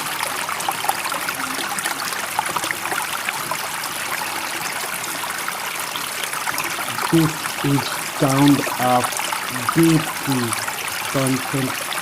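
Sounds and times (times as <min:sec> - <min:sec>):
running water rushing: 0:00.0 - 0:12.0
water trickling splashes: 0:00.0 - 0:12.0.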